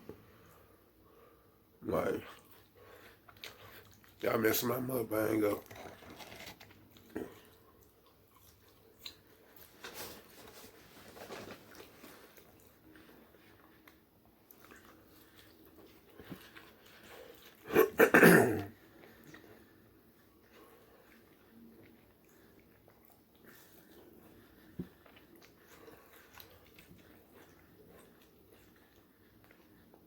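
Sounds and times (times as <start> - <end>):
person chewing food: 2.3 - 4.2, 5.6 - 17.7, 18.8 - 30.0.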